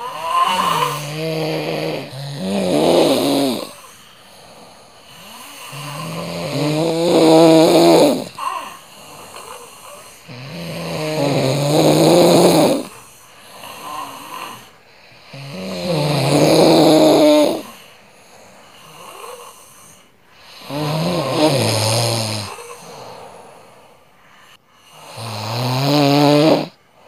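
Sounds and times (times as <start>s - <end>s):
person snoring: 0.0s - 23.8s, 24.5s - 26.8s.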